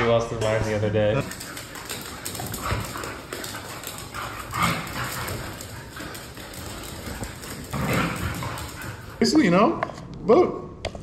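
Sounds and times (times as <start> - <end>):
dogs play-fighting and vocalizing: 1.1 - 10.0.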